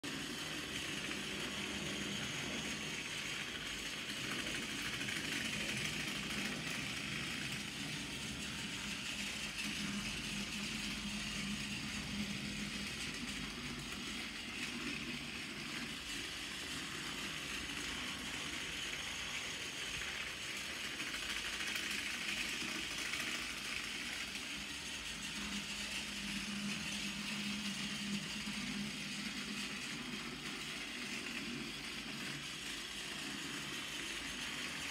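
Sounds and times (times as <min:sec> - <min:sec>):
toy train motor whirring: 0:00.1 - 0:34.9.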